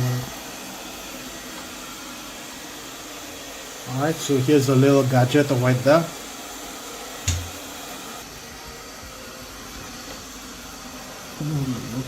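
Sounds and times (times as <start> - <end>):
robot vacuum cleaner whirring: 0.0 - 12.0.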